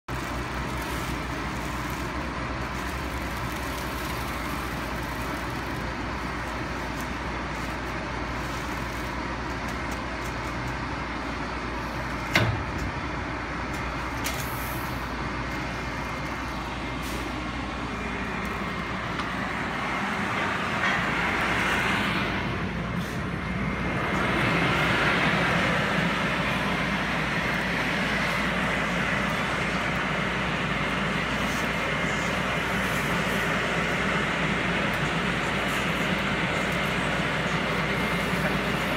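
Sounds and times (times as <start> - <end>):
heat tunnel blower whirring: 0.0 - 38.9.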